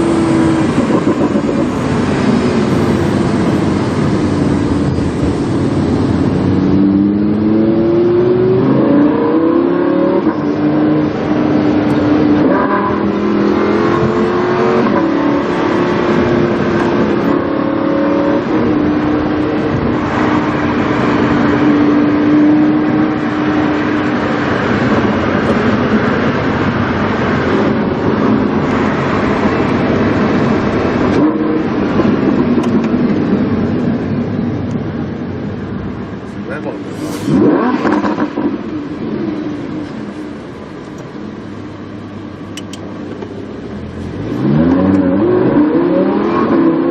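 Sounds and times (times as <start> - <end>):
car engine revving: 0.0 - 46.9
road noise: 0.0 - 46.9.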